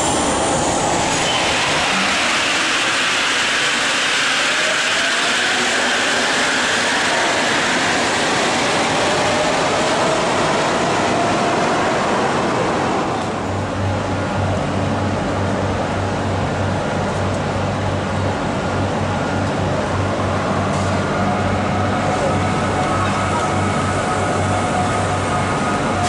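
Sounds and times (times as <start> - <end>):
train rolling noise: 0.0 - 26.0.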